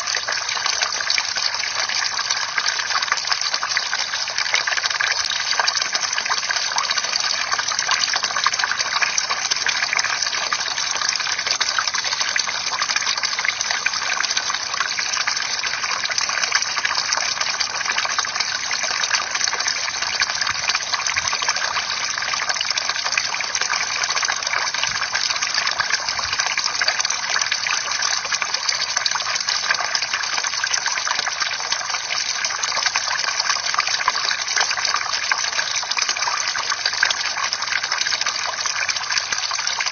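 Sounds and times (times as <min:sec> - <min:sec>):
fountain water pouring and splashing: 0:00.0 - 0:39.9.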